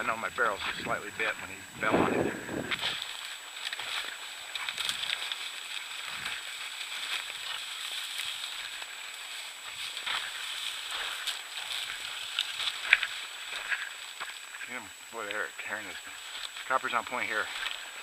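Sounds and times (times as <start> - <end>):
dry grass rustling and crackling: 0.0 - 18.0.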